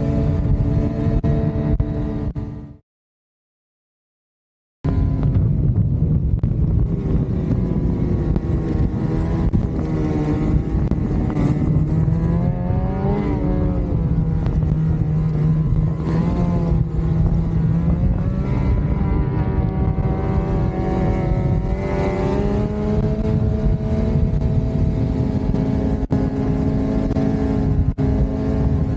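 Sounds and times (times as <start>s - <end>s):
snowmobile engine running: 0.0s - 2.8s, 4.9s - 28.9s.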